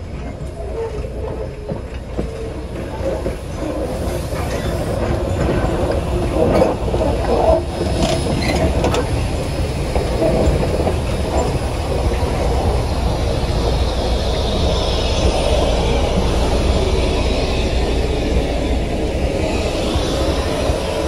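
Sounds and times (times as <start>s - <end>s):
train clanks: 0.0s - 21.0s
train rumbling on track: 0.0s - 21.0s.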